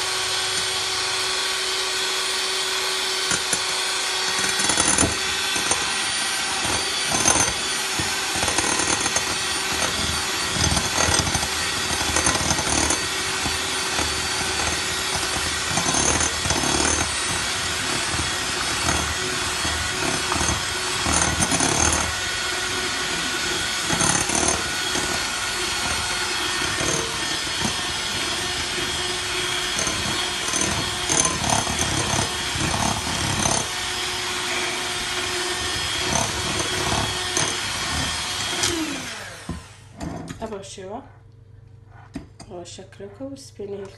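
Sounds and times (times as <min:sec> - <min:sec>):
electric mixer whirring: 0:00.0 - 0:40.2.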